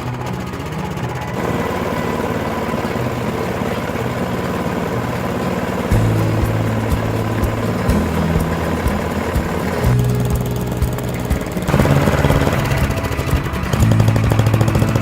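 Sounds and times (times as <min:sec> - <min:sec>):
background music: 0:00.0 - 0:15.0
snowblower engine running: 0:00.0 - 0:15.0.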